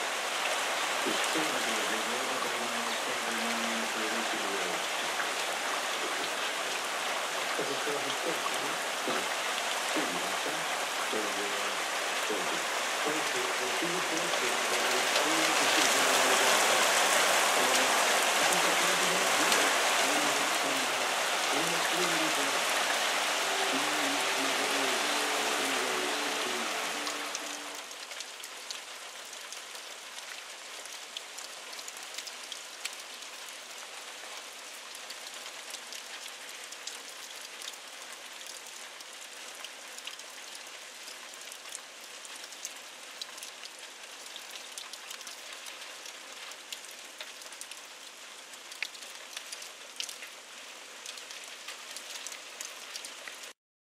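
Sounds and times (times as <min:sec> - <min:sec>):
steady rain with ticking drops: 0:00.0 - 0:53.6.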